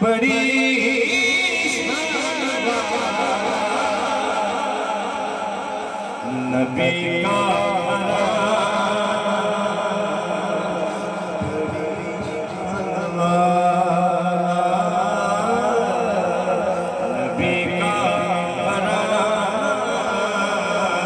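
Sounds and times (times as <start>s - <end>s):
man chanting devotional song: 0.0s - 21.0s.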